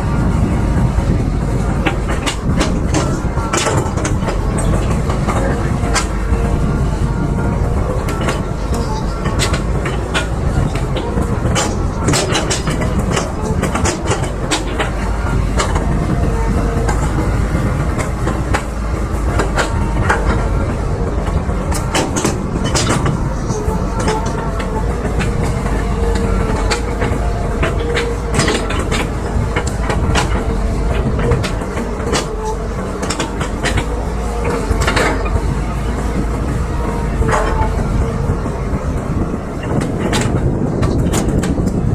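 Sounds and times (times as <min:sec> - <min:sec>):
excavator diesel engine droning: 0:00.0 - 0:41.9
metallic clanks and knocks: 0:01.7 - 0:41.8.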